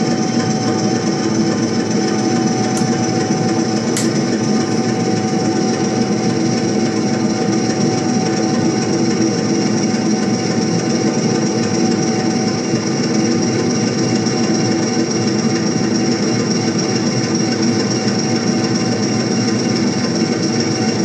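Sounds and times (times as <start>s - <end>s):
recorded diesel locomotive engine: 0.0s - 21.0s.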